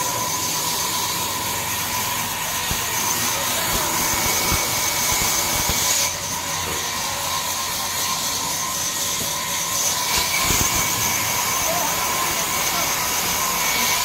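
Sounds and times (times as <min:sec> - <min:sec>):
band saw whining: 0:00.0 - 0:14.0.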